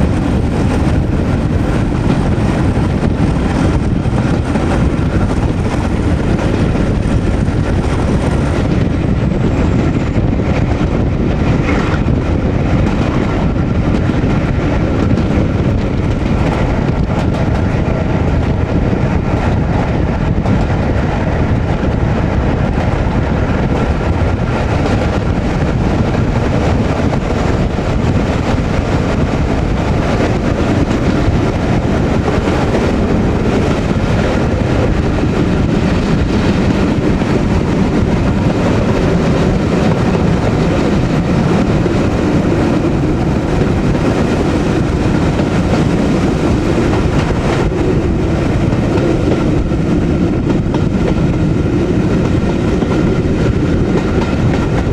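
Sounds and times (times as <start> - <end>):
train rumble: 0.0 - 54.9.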